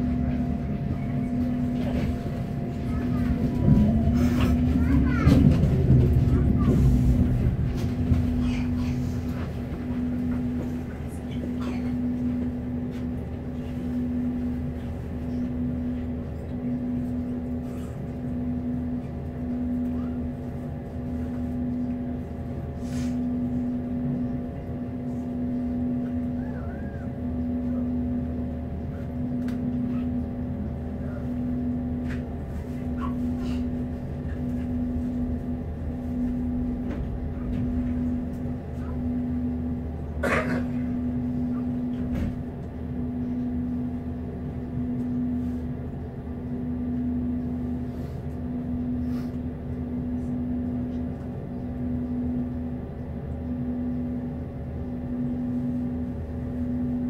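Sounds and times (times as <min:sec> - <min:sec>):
pulsing low tone: 0:00.0 - 0:57.0
tram equipment humming: 0:00.0 - 0:57.0.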